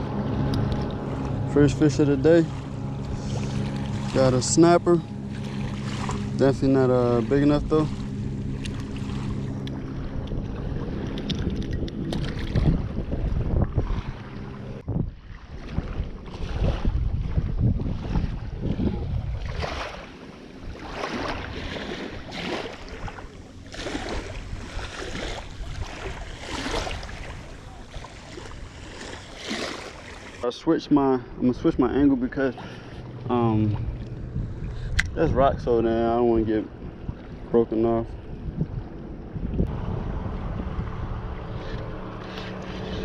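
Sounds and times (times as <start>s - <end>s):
low motor hum: 0.0s - 43.0s
rushing wind and water: 0.0s - 43.0s.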